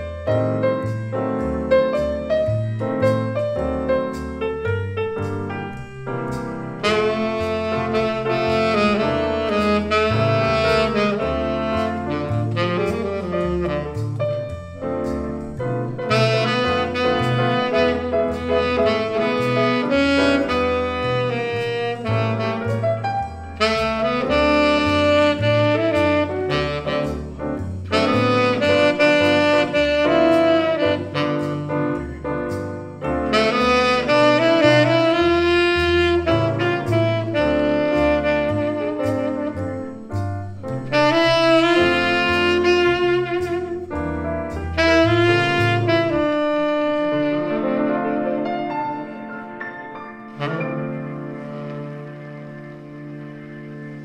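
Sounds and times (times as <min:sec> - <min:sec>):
walking bass line: 0:00.0 - 0:49.5
piano chords: 0:00.0 - 0:54.0
tenor saxophone playing: 0:06.8 - 0:14.5, 0:16.0 - 0:32.2, 0:33.2 - 0:49.6, 0:50.2 - 0:54.0.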